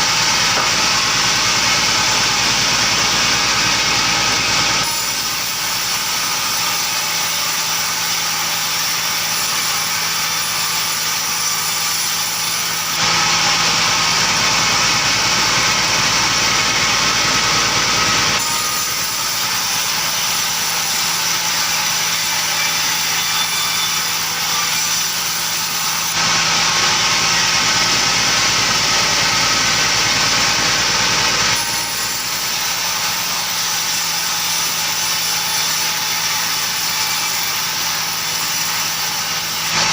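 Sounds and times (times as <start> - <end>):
engine-driven saw droning: 0.0 - 39.9.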